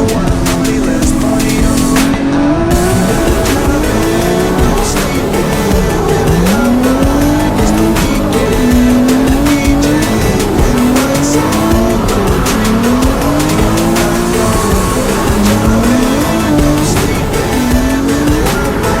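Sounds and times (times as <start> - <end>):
car engine revving: 0.0 - 19.0
song playing: 0.0 - 19.0
tyres squealing: 0.0 - 19.0.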